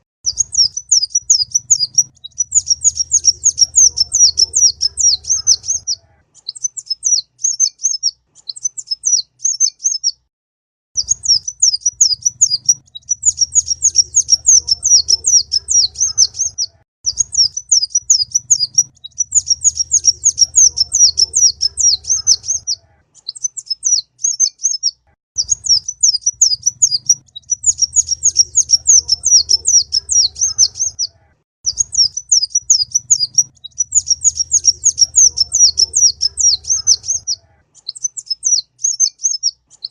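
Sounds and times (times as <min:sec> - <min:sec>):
sunbird high chirping song: 0:00.2 - 0:10.2, 0:11.0 - 0:39.9.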